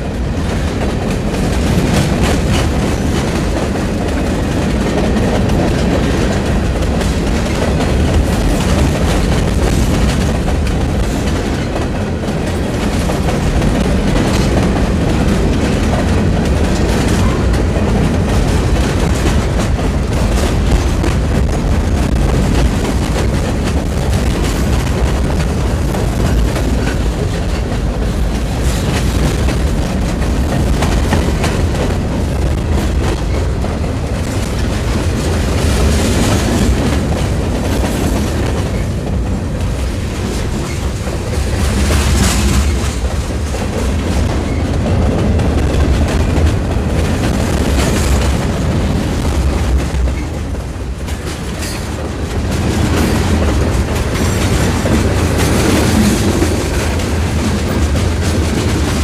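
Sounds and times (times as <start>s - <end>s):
freight train wheels rumbling: 0.0s - 59.0s
wheels clicking over rail joints: 0.0s - 59.0s.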